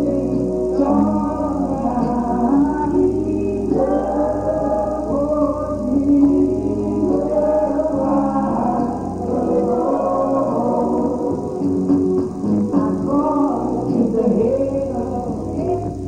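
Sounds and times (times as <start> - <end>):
steady bass accompaniment: 0.0 - 16.0
voices singing together: 0.0 - 16.0.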